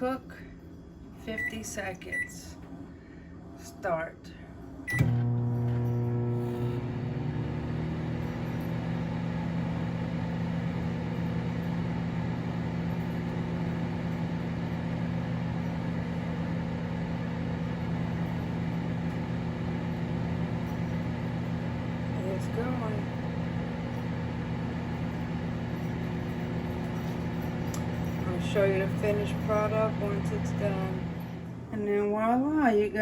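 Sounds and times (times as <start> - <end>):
microwave oven humming: 0.0 - 33.0.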